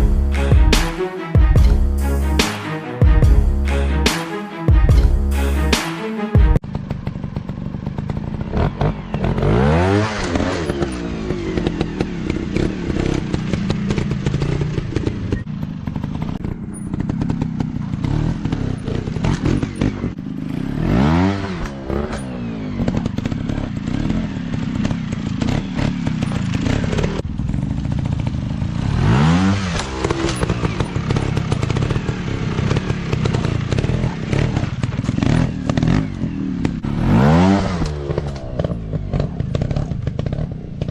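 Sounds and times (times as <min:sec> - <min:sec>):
dirt bike engine revving: 0:06.6 - 0:40.9.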